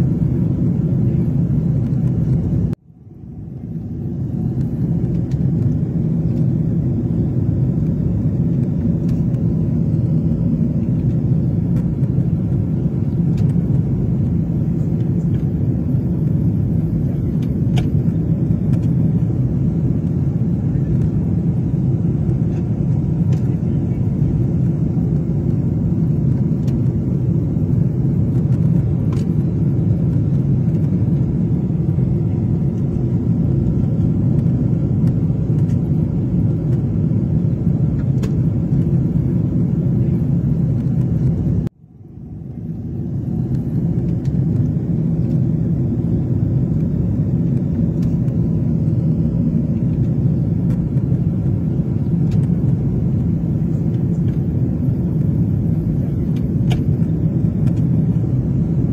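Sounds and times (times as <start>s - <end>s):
jet engines rumbling in cabin: 0.0s - 58.9s.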